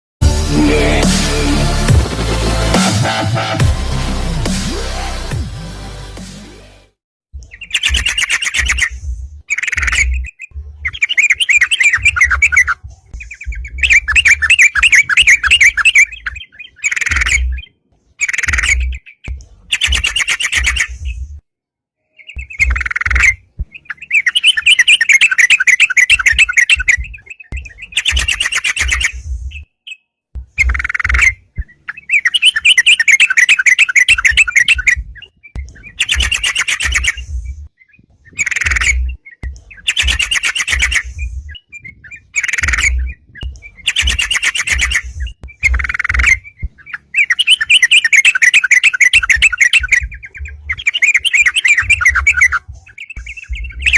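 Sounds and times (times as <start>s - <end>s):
bulbul singing: 7.4s - 21.4s, 22.0s - 53.9s.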